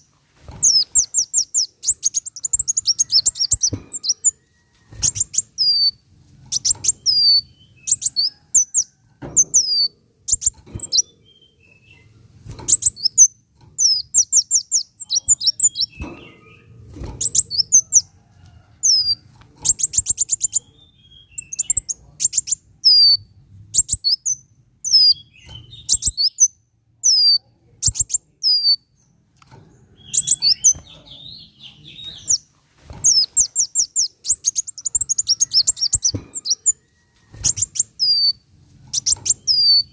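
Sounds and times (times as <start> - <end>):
sunbird singing high chirps: 0.0 - 4.4, 5.0 - 18.1, 18.9 - 29.0, 29.9 - 32.4, 33.0 - 36.8, 37.4 - 39.9.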